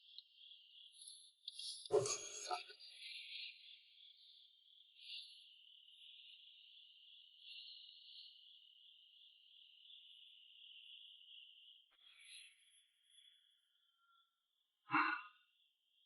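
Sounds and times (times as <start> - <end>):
insects chirring: 0.0 - 14.3.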